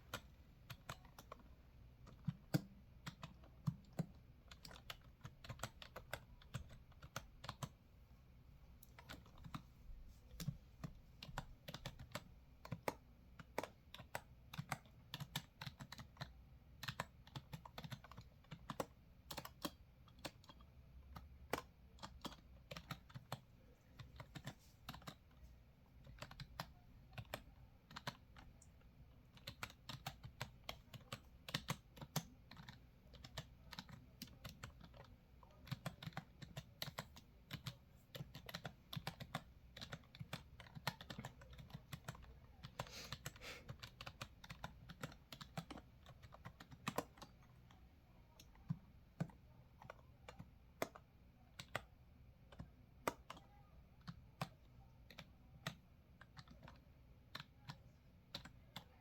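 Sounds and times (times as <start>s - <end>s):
computer keyboard typing: 0.0s - 7.8s, 8.8s - 9.7s, 10.4s - 59.0s.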